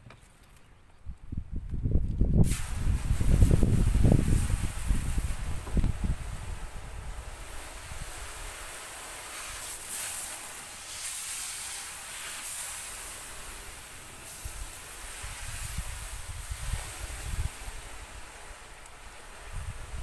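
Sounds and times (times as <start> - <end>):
hose spray hissing on a car: 2.4 - 20.0.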